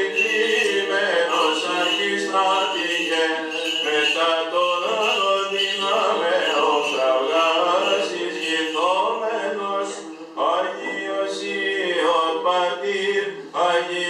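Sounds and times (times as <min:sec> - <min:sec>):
men chanting unaccompanied: 0:00.0 - 0:14.0.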